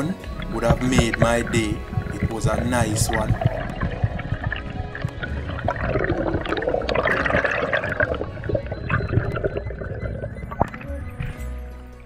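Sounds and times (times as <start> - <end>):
water rushing and gurgling underwater: 0.0 - 11.4.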